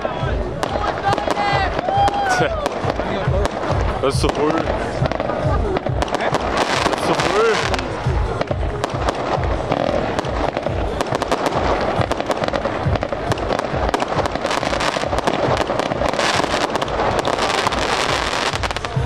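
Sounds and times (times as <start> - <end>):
deep fireworks booms: 0.0 - 19.0
fireworks bangs and crackles: 0.0 - 19.0.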